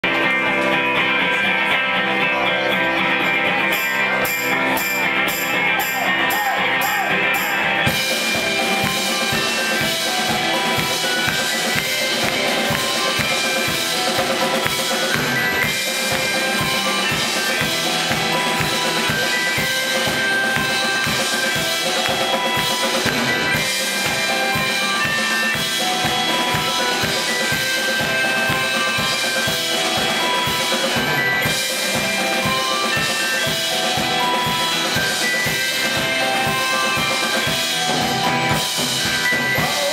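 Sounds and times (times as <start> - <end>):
drum kit beat: 3.0 - 39.9
keyboard tones: 3.7 - 39.9.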